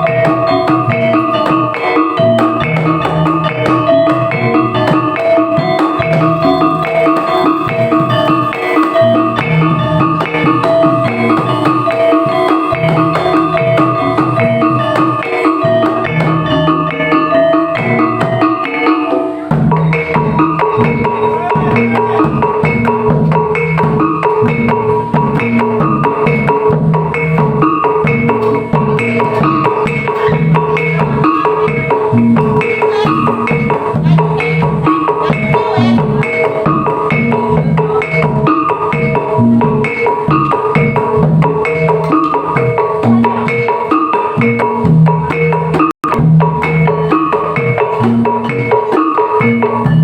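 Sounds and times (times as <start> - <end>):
rhythmic percussion music: 0.0 - 50.0.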